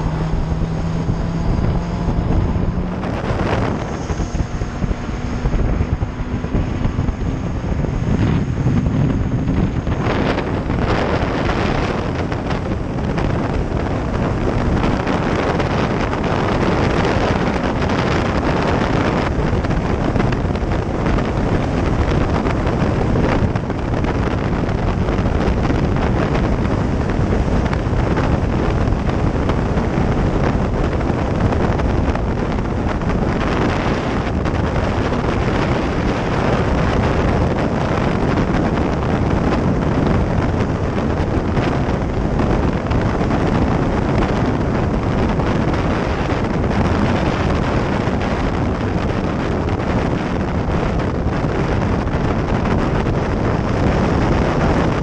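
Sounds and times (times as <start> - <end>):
motorcycle engine: 0.0 - 55.0
road noise: 0.0 - 55.0
wind rushing over microphone: 0.0 - 55.0.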